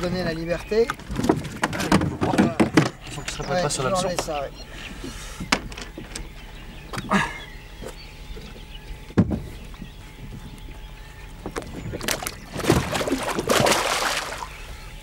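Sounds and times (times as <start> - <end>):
knocks and thumps in a boat: 0.0 - 4.4, 5.4 - 14.5.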